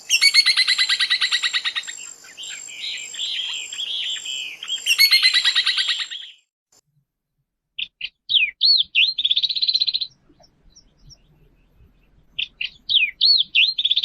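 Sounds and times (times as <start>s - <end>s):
songbird singing: 0.0s - 6.5s, 7.8s - 14.0s.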